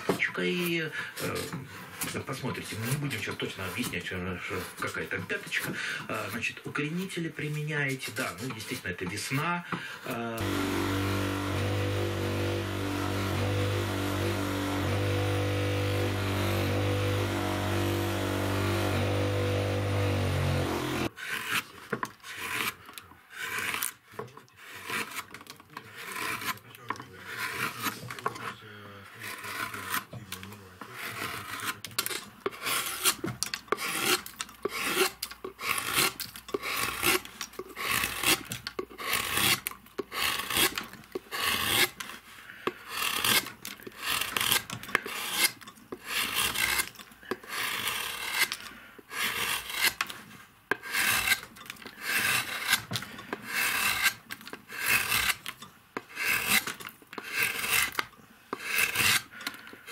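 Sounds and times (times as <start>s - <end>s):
gouge scraping wood: 0.0s - 9.5s, 10.1s - 59.9s.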